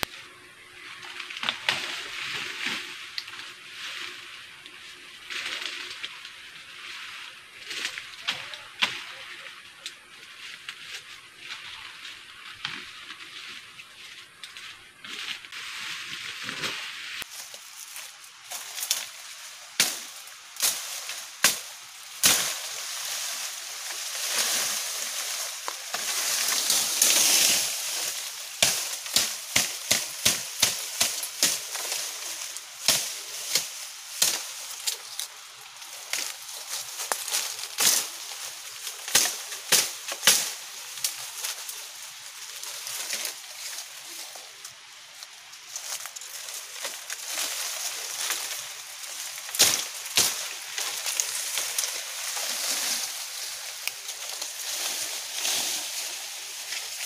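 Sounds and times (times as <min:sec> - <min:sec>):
steady hiss: 0:01.6 - 0:57.0.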